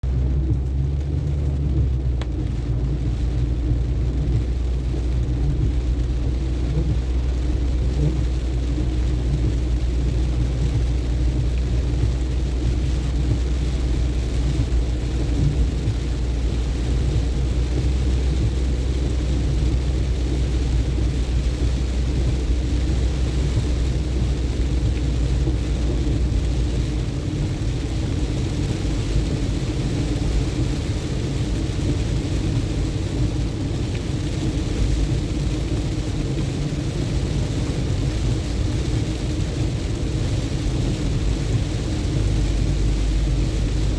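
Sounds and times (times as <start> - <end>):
car engine and road rumble: 0.0 - 43.9
rain: 0.0 - 43.9.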